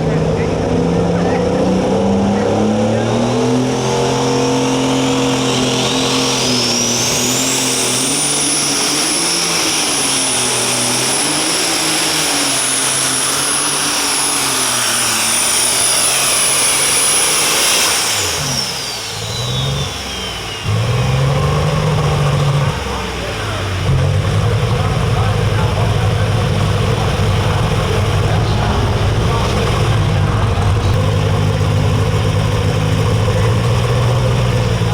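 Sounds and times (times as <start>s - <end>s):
diesel engine running hard: 0.0s - 34.9s
high turbo whine: 0.0s - 34.9s.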